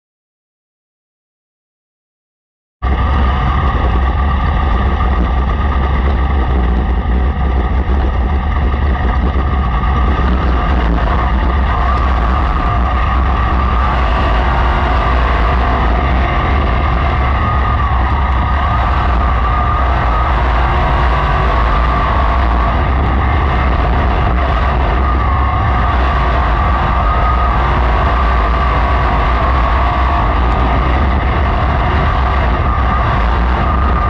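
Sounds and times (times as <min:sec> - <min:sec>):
race car engine running: 0:02.8 - 0:34.0.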